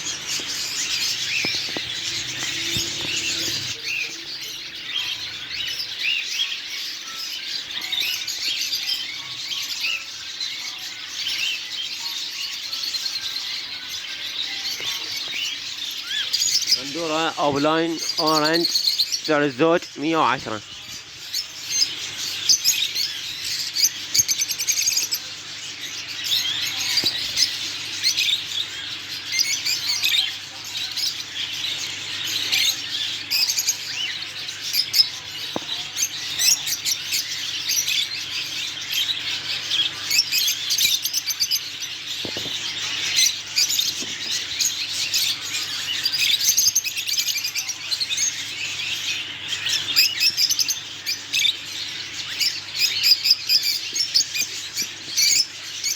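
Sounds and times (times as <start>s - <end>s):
caged birds chirping: 0.0s - 55.9s.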